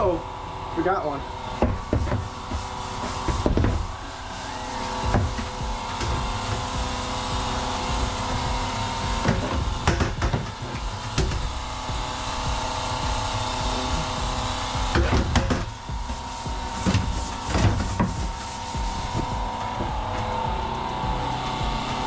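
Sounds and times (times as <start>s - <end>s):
steady machine hum: 0.0s - 22.0s
sharp knocks and bangs: 1.6s - 4.1s, 4.9s - 21.8s.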